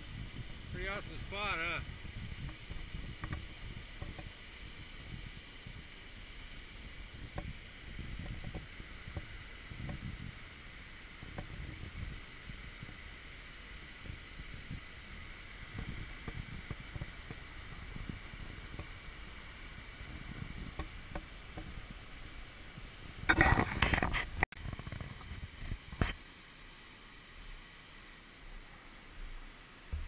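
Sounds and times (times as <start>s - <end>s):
wind buffeting microphone: 0.0s - 13.1s, 13.8s - 26.1s
stream running over rocks: 0.0s - 30.0s.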